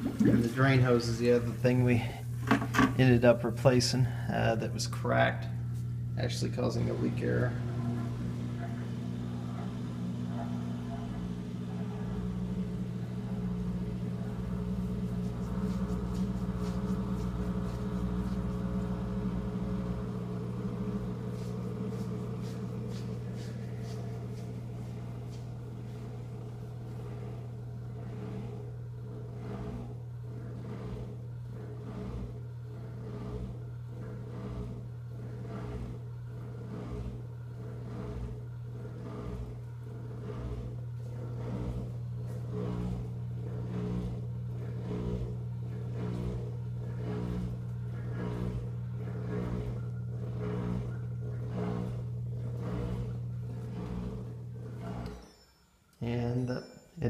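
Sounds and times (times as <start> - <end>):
dishwasher drain pump humming: 0.0 - 56.8.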